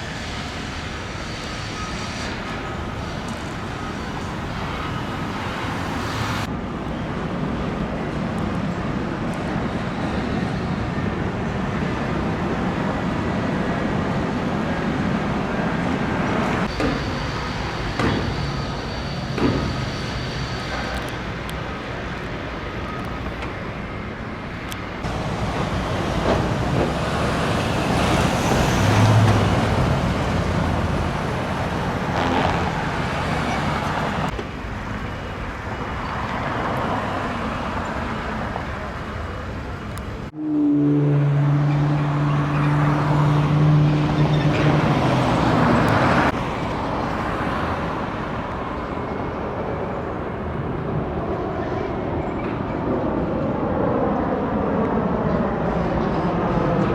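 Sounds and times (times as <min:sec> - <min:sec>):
road traffic rumble: 0:00.0 - 0:56.9.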